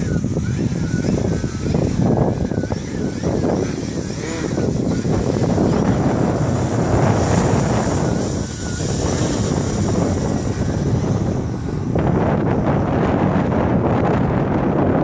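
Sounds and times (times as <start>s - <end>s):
model airplane motor whine: 0.0s - 15.0s
wind rumble on microphone: 0.0s - 15.0s.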